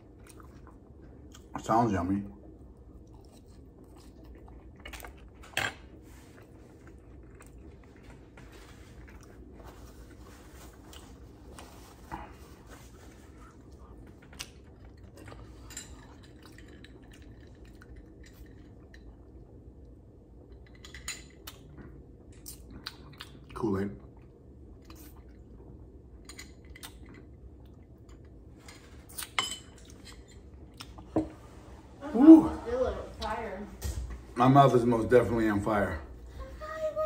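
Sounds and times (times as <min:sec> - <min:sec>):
faint chewing: 0:00.0 - 0:01.7, 0:02.4 - 0:31.1.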